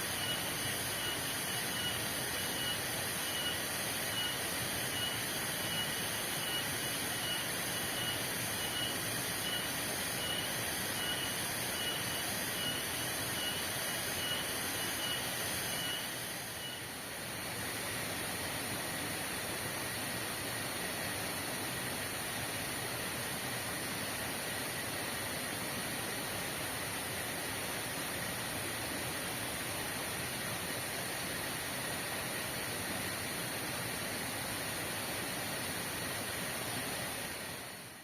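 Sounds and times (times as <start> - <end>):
heavy rain in forest: 0.0 - 38.0.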